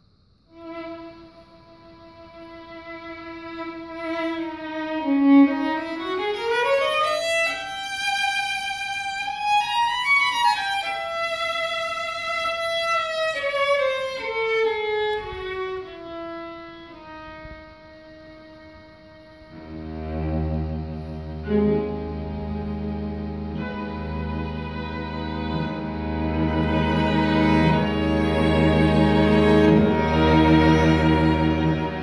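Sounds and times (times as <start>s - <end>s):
bowed violin line: 0.5s - 32.0s
string quartet playing: 0.5s - 32.0s.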